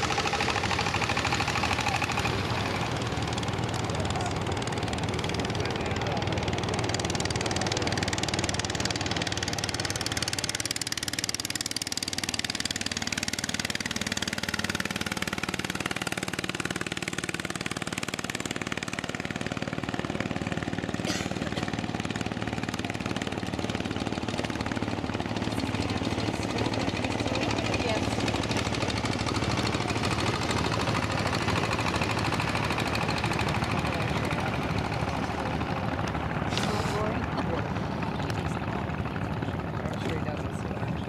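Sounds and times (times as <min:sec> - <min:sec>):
motorboat engine idling: 0:00.0 - 0:41.0.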